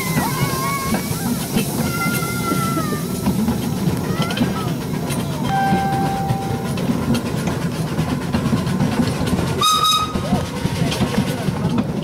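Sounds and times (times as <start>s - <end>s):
miniature train rumbling: 0.0s - 12.0s.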